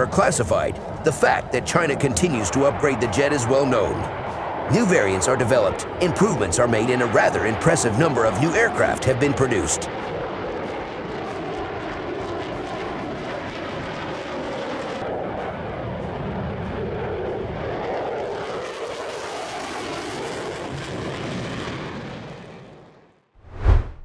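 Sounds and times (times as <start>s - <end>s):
jet engine flying overhead: 0.0s - 23.0s.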